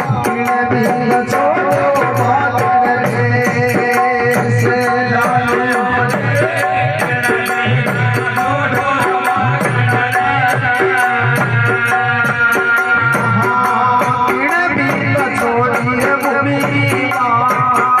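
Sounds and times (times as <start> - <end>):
deep hand drum beat: 0.0 - 18.0.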